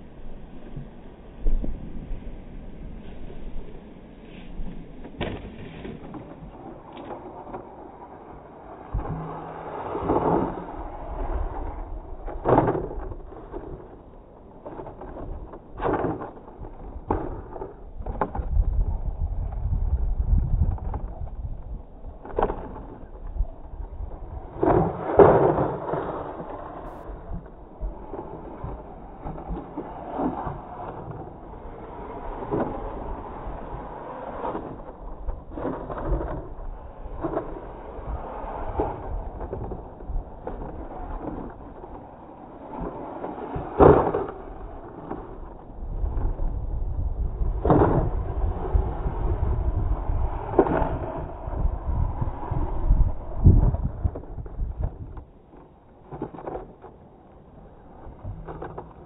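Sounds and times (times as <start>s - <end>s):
wind on microphone: 0.0s - 56.9s
toy car tyres churning sand: 2.3s - 59.0s.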